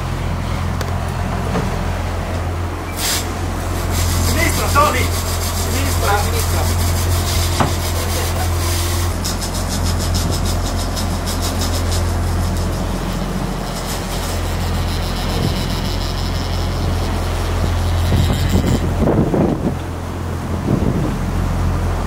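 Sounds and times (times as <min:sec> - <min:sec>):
boat engines droning: 0:00.0 - 0:22.0
rushing wake: 0:00.0 - 0:22.0
wind: 0:00.0 - 0:22.0.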